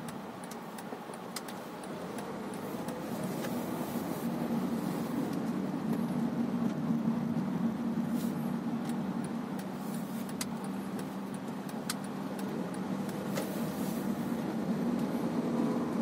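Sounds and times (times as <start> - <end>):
car engine and road hum: 0.0 - 16.0.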